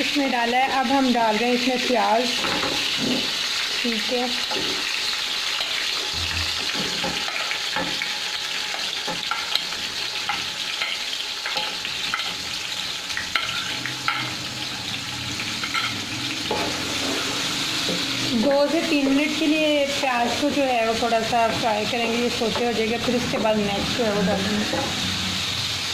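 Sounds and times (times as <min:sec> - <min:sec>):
onions sizzling in hot oil: 0:00.0 - 0:25.9.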